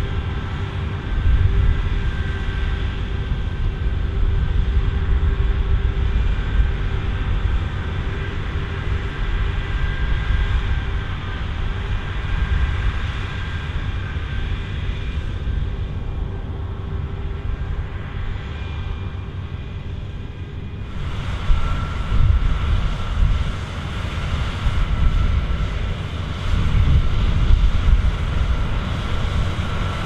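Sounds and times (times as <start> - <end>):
combine harvester engine rumble: 0.0 - 30.0
whining machinery: 0.0 - 30.0.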